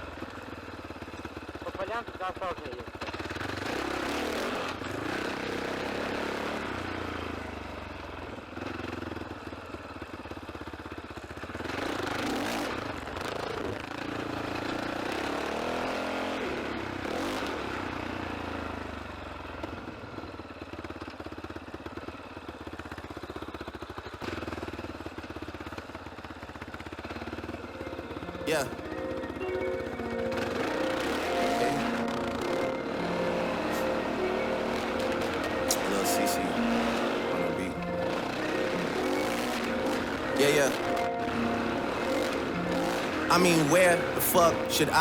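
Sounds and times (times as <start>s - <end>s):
motorcycle engine revving: 2.8s - 10.1s, 10.9s - 18.8s, 23.6s - 45.0s.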